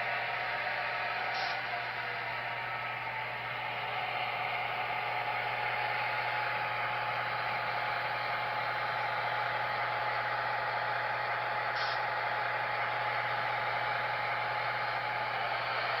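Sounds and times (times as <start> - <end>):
hissy diesel engine sound: 0.0 - 16.0.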